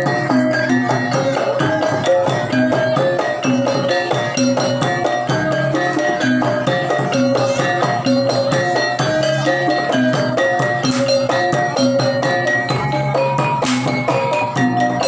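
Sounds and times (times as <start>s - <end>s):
percussion strokes: 0.0s - 15.0s.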